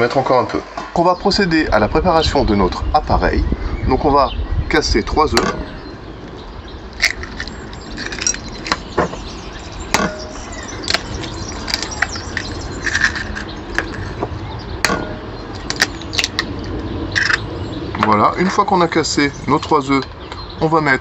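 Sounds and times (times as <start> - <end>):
low rumble: 1.0 - 19.8.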